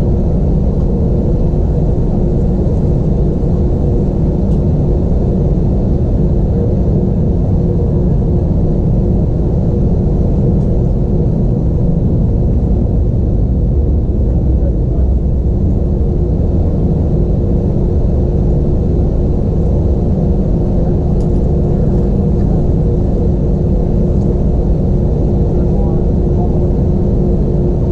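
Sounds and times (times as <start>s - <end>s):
low rumble of jet engines: 0.0s - 27.9s.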